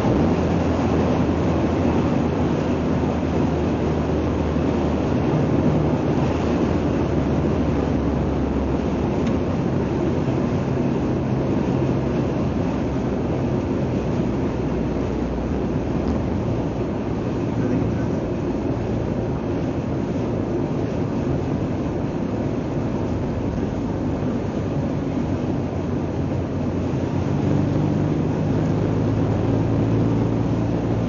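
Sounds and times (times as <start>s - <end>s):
low hum: 0.0s - 31.0s
road noise inside vehicle: 0.0s - 31.0s
vehicle engine drone: 0.0s - 31.0s.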